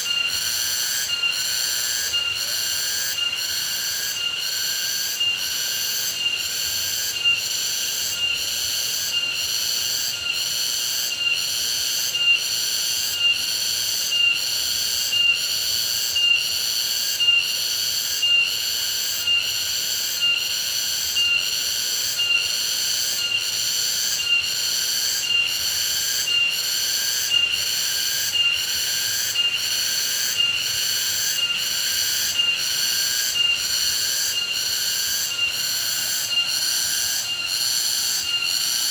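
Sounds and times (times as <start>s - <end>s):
insects buzzing trill: 0.0s - 38.9s.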